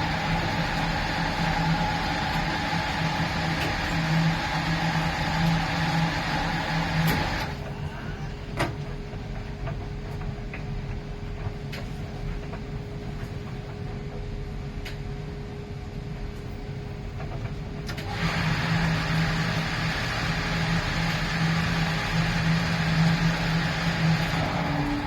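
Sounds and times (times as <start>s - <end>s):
washing machine drum motor: 0.0s - 13.9s, 17.1s - 25.0s.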